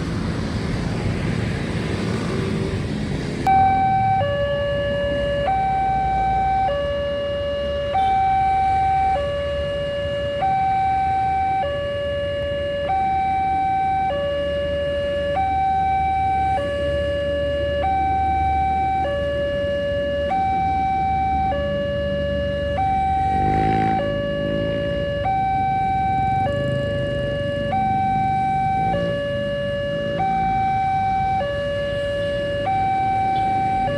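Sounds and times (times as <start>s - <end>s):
level crossing two-tone alarm: 3.5s - 33.9s.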